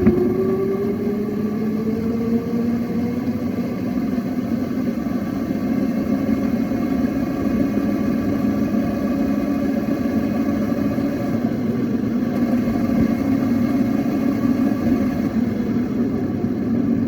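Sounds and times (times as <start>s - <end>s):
motorbike motor running: 0.0s - 17.0s.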